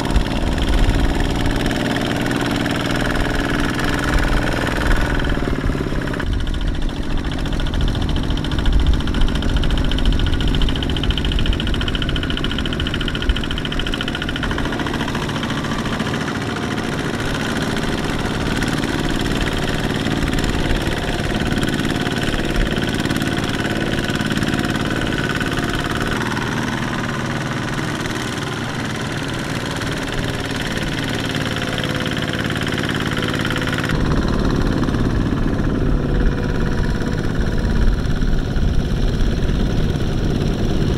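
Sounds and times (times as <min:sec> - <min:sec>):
walking tractor diesel engines: 0:00.0 - 0:40.9.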